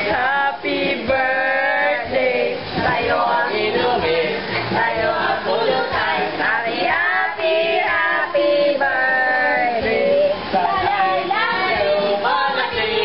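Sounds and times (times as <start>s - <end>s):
karaoke backing music: 0.0s - 13.0s
woman singing karaoke: 0.0s - 13.0s.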